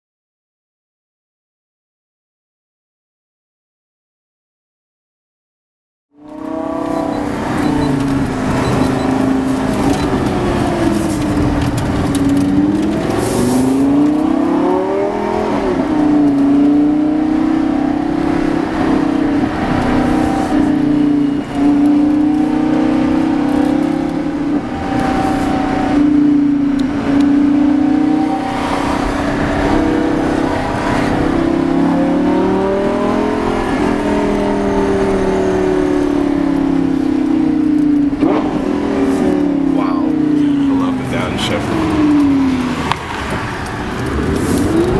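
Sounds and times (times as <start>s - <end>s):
sports car engine and exhaust: 6.1s - 44.9s.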